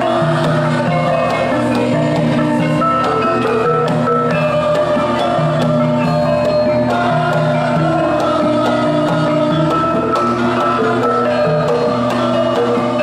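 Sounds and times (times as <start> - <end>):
choir singing: 0.0 - 13.0
hand drums: 0.0 - 13.0
ringing metallophone tones: 0.0 - 13.0.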